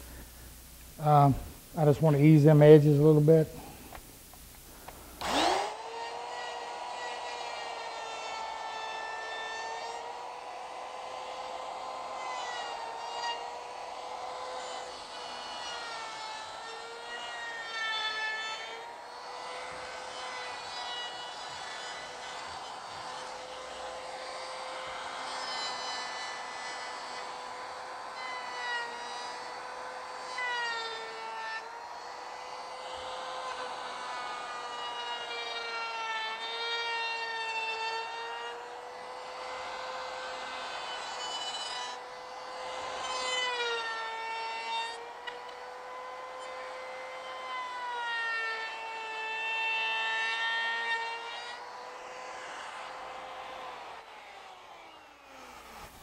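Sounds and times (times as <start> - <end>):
router whining: 0.0 - 56.0.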